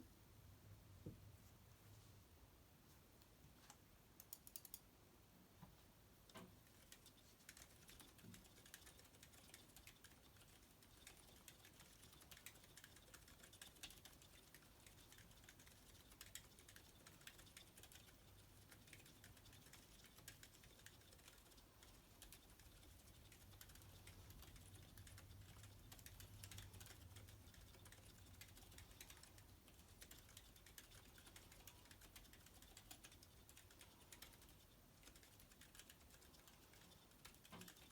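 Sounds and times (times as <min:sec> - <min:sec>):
soft mechanical keyboard typing: 0:03.6 - 0:04.9, 0:06.3 - 0:37.9.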